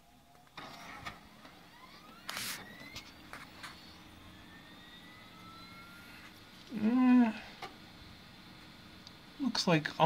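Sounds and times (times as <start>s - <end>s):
low hum: 0.0s - 9.4s
computer fans whining: 0.0s - 10.0s.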